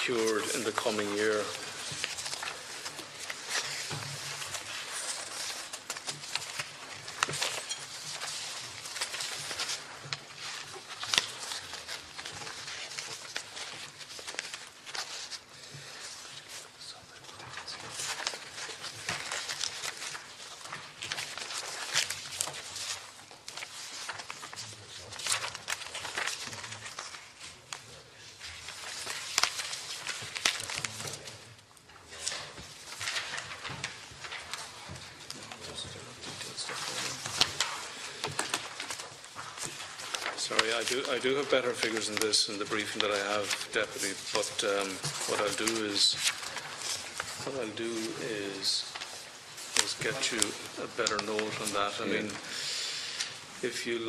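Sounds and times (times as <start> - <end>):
crackles: 0.0 - 54.0
paper rustling: 0.0 - 54.0.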